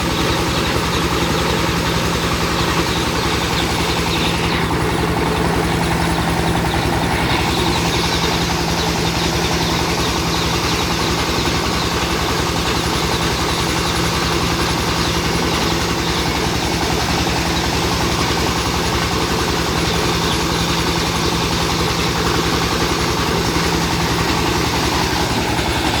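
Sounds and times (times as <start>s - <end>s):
rice milling machine drone: 0.0s - 26.0s.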